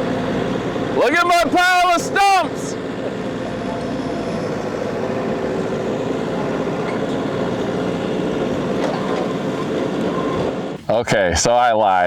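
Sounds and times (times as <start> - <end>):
digging machine engine drone: 0.0 - 12.0.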